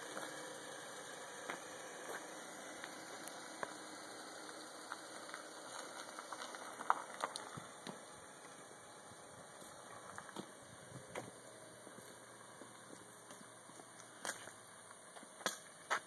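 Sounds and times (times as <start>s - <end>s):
faint car engine hum: 0.0s - 16.0s
gravel crunching under tyres: 0.0s - 16.0s.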